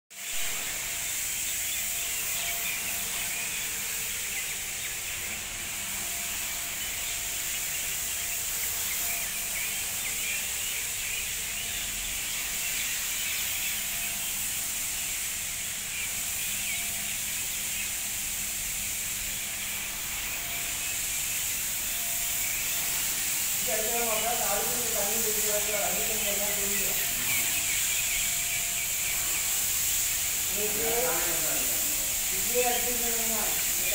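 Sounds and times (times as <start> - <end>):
floor scrubber brush hissing: 0.1 - 33.9
faint motor hum: 0.2 - 33.9.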